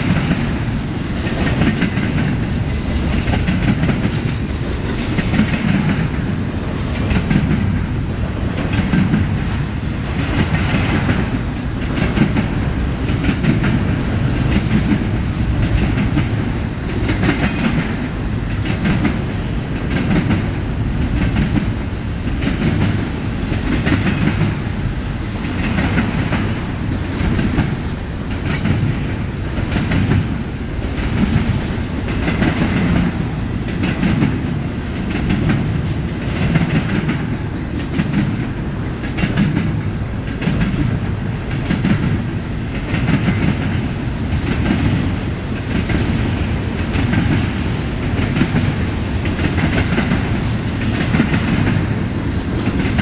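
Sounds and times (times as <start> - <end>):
train rumbling past: 0.0 - 53.0
wheels clacking on rails: 0.0 - 53.0.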